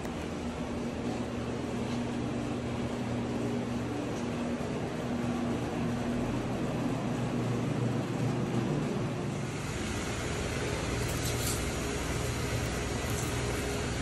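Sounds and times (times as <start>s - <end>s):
machine droning hum: 0.0s - 14.0s.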